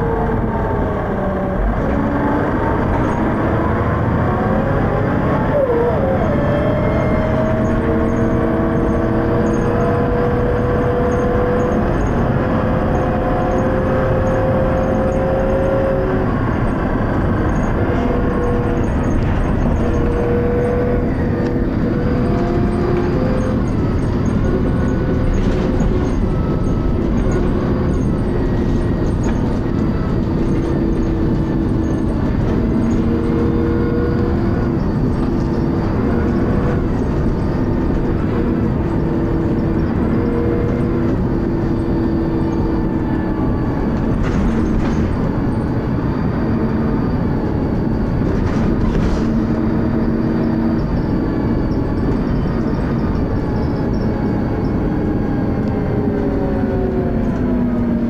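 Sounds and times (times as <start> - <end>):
bus engine rumble: 0.0 - 58.0
whining gearbox tones: 0.0 - 58.0.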